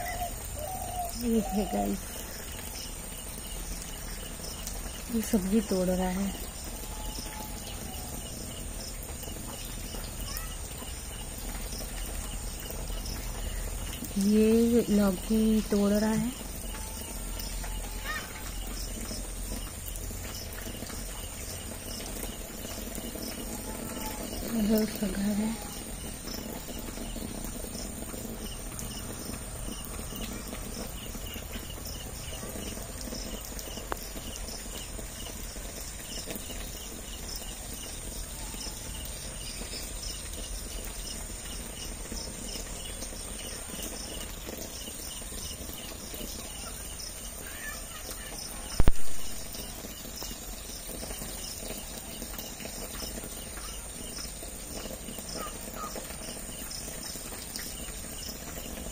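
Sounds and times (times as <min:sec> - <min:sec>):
insects chirping: 0:00.0 - 0:58.9
outdoor ambience hiss: 0:00.0 - 0:58.9.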